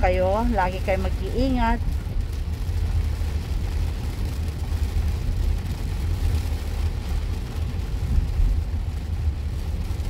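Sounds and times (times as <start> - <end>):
hiss of rain and spray: 0.0 - 10.0
road rumble inside car: 0.0 - 10.0.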